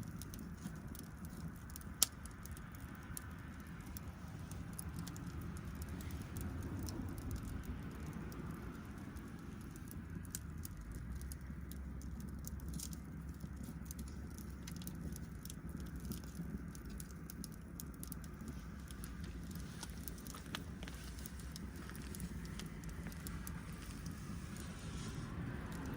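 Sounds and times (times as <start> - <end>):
bonfire crackling and popping: 0.0 - 25.9
low steady rumble: 0.0 - 25.9.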